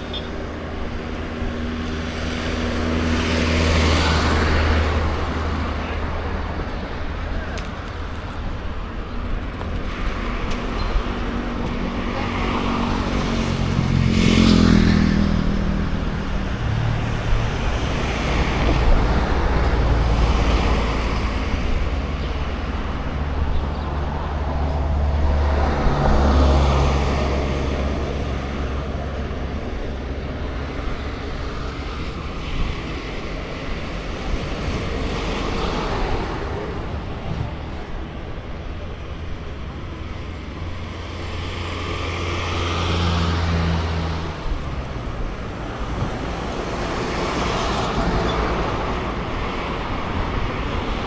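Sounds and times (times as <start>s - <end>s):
traffic rumble: 0.0s - 51.0s
vehicles passing close by: 0.0s - 51.0s.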